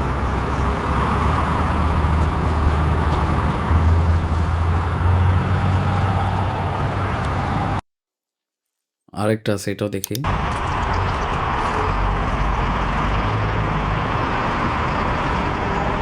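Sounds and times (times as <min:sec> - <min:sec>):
traffic noise: 0:00.0 - 0:07.8, 0:10.1 - 0:16.0.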